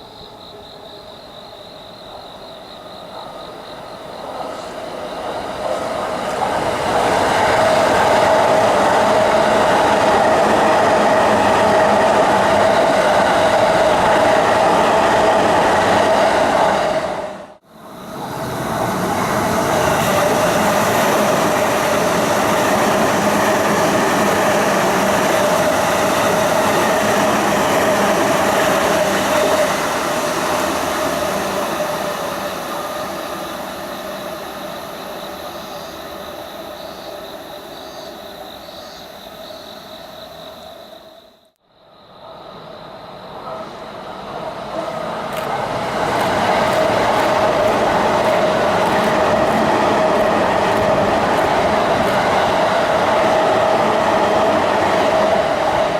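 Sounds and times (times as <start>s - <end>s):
train rumbling on rails: 0.0s - 55.9s.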